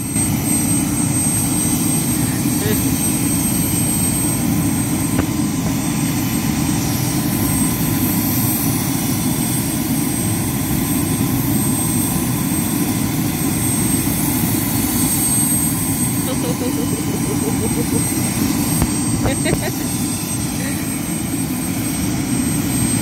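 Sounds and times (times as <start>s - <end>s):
helicopter turbine engine running: 0.0s - 23.0s.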